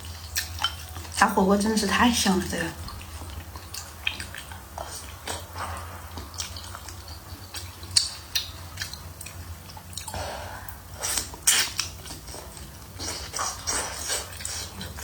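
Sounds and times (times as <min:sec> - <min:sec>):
chewing with wet mouth clicks: 0:00.0 - 0:01.2, 0:02.7 - 0:15.0
steady low hum: 0:00.0 - 0:15.0.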